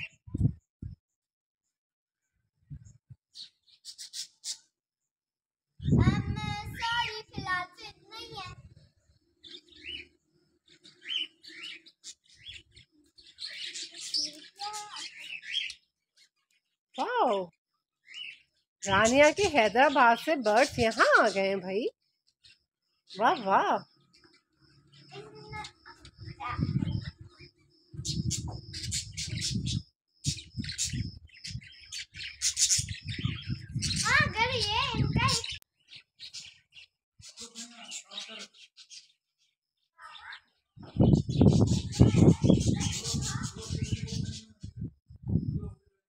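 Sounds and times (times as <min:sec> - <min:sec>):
small birds chirping: 0:02.2 - 0:04.8, 0:05.8 - 0:46.0.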